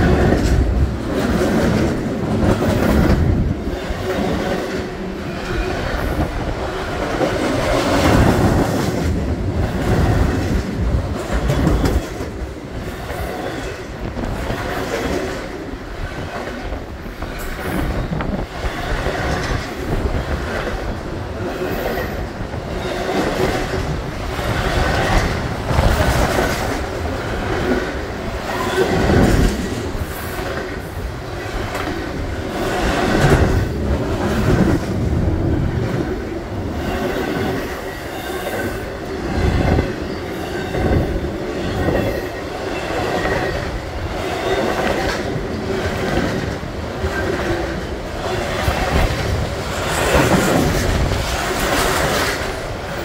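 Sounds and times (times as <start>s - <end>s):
freight train wheels rumbling: 0.0s - 53.0s
wheels clickety-clack on track: 0.0s - 53.0s.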